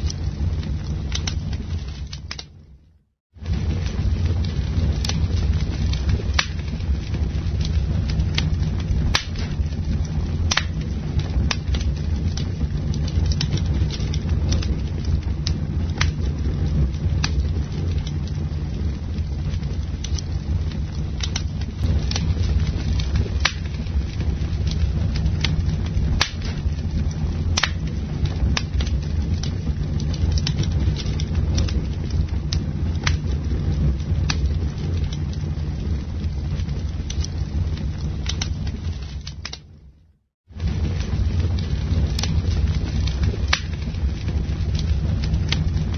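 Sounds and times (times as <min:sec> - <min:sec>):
campfire flames rumbling: 0:00.0 - 0:45.9
wood crackles and pops: 0:00.0 - 0:45.9.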